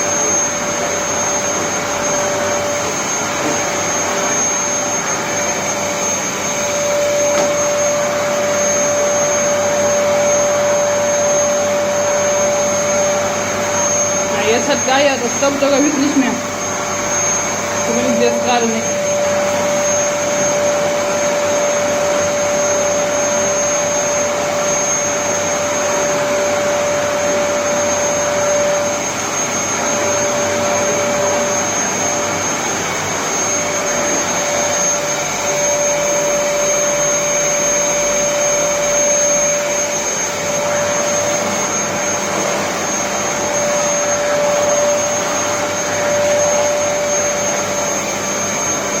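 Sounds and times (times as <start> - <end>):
vacuum cleaner running: 0.0 - 49.0.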